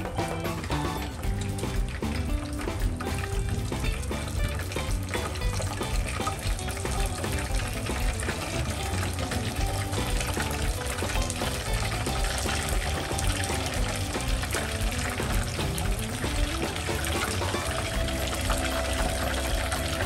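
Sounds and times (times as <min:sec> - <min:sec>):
background music with steady beat: 0:00.0 - 0:20.0
chicken deep-frying in oil: 0:00.0 - 0:20.0.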